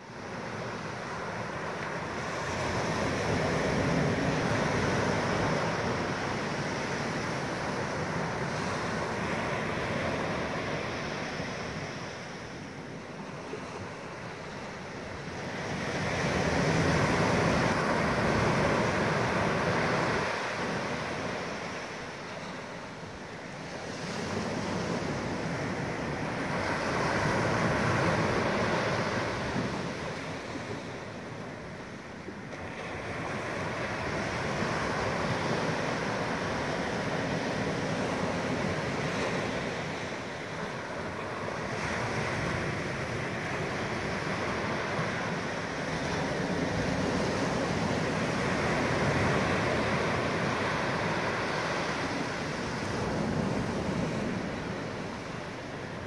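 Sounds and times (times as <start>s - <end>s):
waves washing up a beach: 0.0s - 56.0s.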